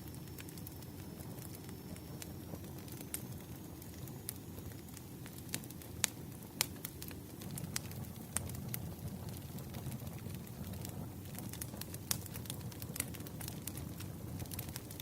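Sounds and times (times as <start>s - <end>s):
campfire flame rushing: 0.0s - 15.0s
wood crackling and popping: 0.0s - 15.0s.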